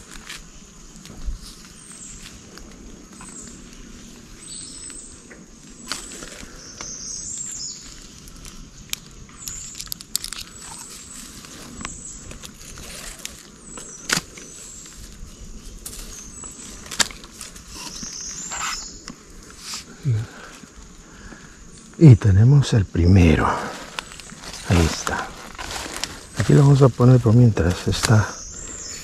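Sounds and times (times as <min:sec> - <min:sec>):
rustling and handling noises: 0:00.0 - 0:21.0, 0:23.6 - 0:28.2.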